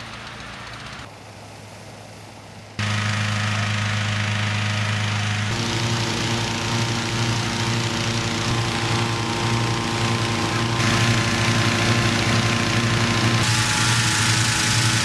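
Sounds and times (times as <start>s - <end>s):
inflator fan engine hum: 0.0s - 15.0s.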